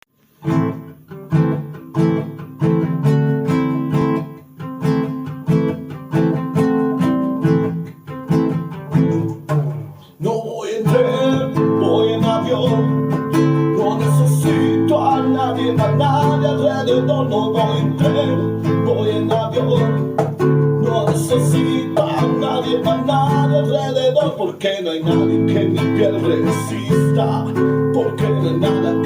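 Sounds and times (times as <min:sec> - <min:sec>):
acoustic guitar strumming: 0:00.2 - 0:29.0.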